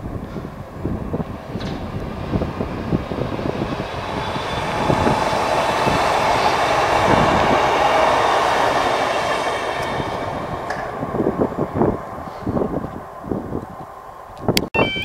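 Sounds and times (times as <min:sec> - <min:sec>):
electric train passing: 0:00.0 - 0:14.6.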